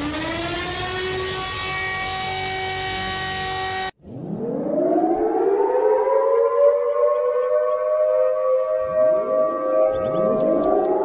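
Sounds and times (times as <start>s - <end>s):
civil defense siren wailing: 0.0s - 11.0s.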